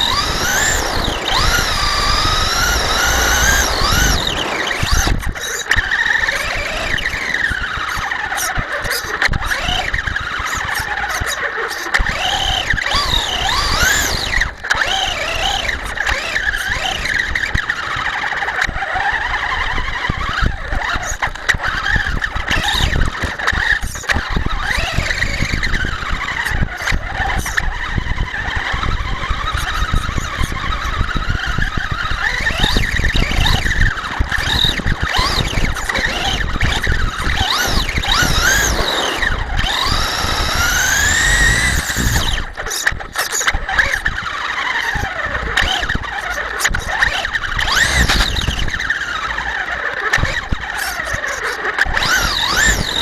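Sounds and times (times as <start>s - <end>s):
toy truck motor whining: 0.0s - 53.0s.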